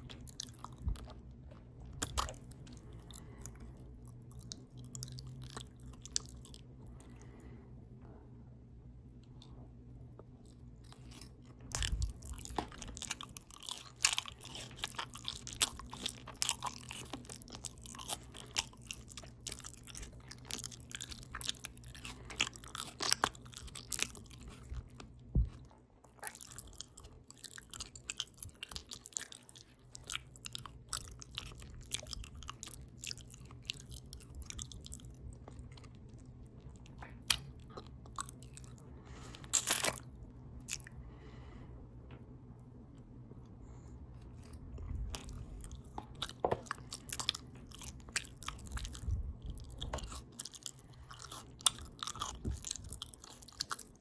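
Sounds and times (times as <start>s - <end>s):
open-mouth chewing: 0.0s - 7.5s, 9.2s - 41.0s, 43.4s - 54.0s.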